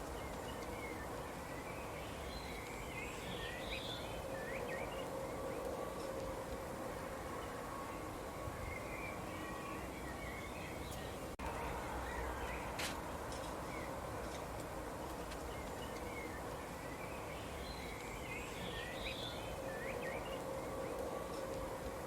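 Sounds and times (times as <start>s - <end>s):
outdoor background hiss: 0.0s - 22.0s
songbirds chirping: 0.0s - 22.0s.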